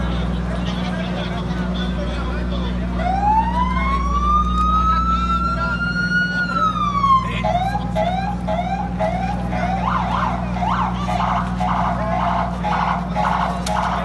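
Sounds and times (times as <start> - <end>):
low engine hum: 0.0 - 14.0
emergency vehicle siren: 2.7 - 14.0.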